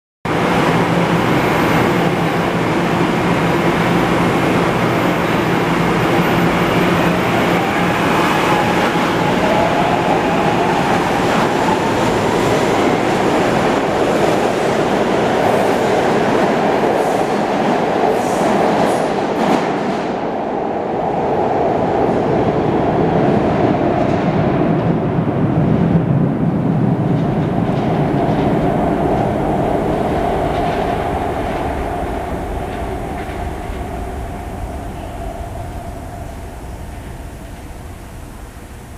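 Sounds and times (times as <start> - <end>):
subway train pulling out: 0.3 - 38.9.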